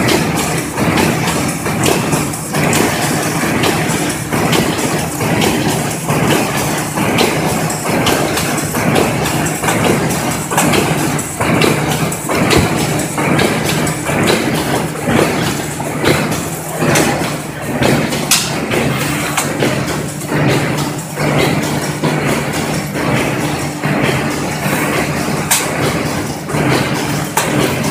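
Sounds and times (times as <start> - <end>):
machine motor hum: 0.0 - 27.9
machinery clacks and knocks: 0.0 - 27.9.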